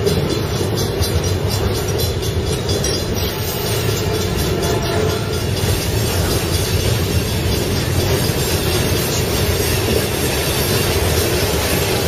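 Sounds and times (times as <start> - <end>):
steel wheels running on rails: 0.0 - 12.0.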